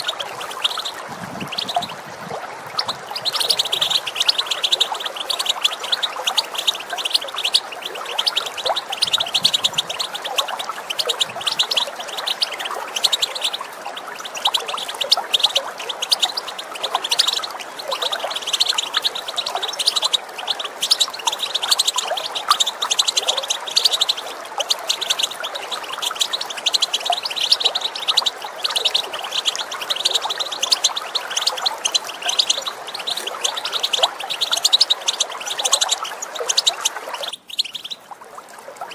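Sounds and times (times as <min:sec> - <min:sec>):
bird chirping and twittering: 0:00.0 - 0:38.1
running water rushing: 0:00.0 - 0:38.9.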